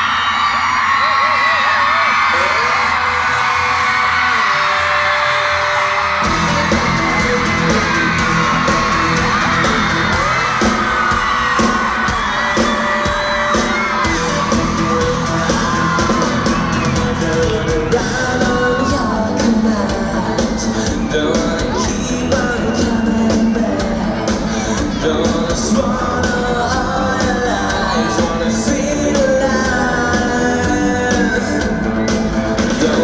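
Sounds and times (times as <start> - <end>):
crowd screaming and whooping: 0.0 - 33.0
rock band playing: 2.2 - 33.0.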